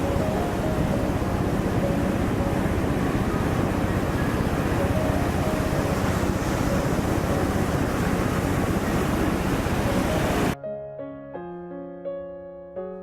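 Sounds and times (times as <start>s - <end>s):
ocean surf roar: 0.0s - 10.6s.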